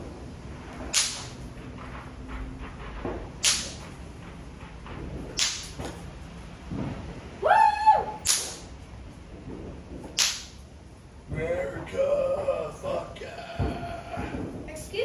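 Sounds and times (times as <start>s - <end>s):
fireworks hissing cracks: 0.0s - 15.0s.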